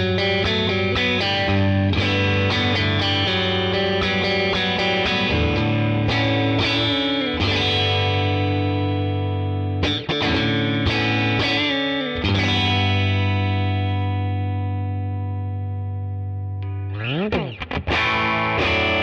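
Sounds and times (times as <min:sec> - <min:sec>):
overdriven electric guitar chords: 0:00.0 - 0:19.0.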